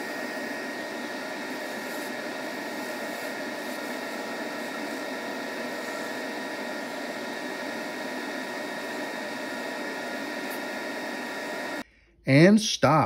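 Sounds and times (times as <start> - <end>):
wood lathe whirring: 0.0 - 11.8.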